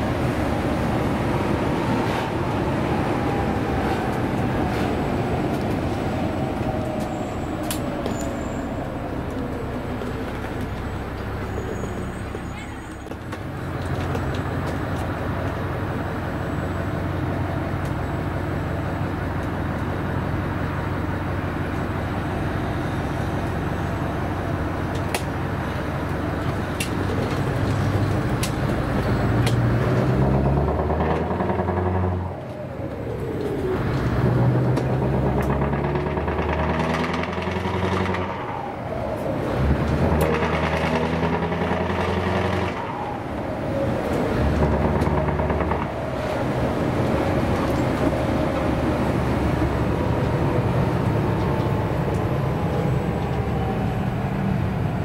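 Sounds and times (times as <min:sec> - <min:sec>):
loud truck engine running: 0:00.0 - 0:55.0.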